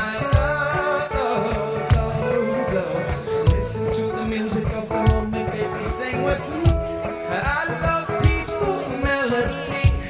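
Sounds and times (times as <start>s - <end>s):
acoustic guitar music with steady beat: 0.0s - 10.0s.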